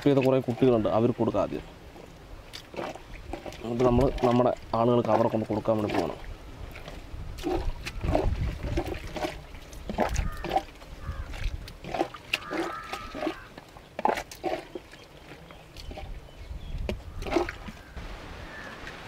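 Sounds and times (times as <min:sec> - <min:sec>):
cups scooping thick custard: 0:02.6 - 0:17.8.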